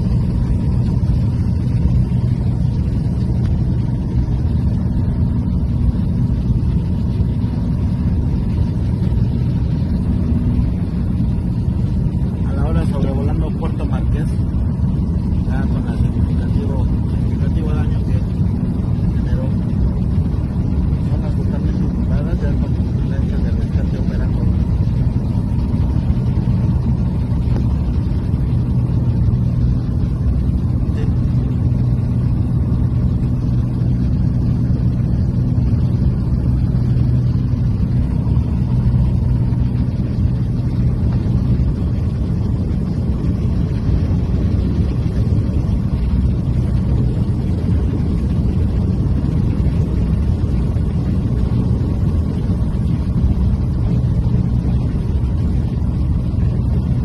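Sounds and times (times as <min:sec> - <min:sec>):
rumbling wash of noise: 0:00.0 - 0:57.0.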